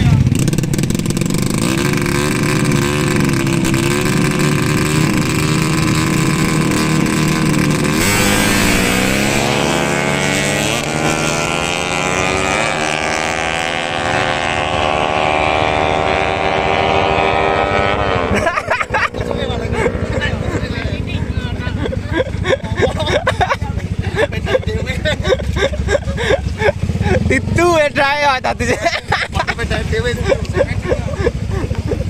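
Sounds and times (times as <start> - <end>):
motorcycle engines accelerating: 0.0 - 32.0.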